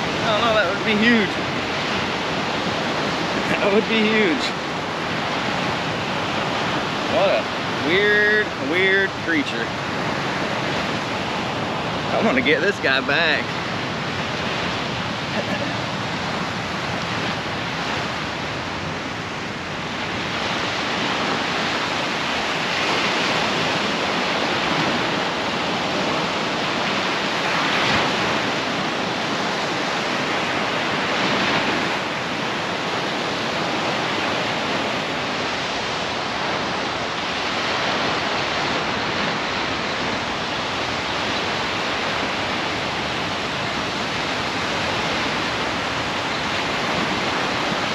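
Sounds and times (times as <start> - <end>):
surf washing onto beach: 0.0 - 47.9.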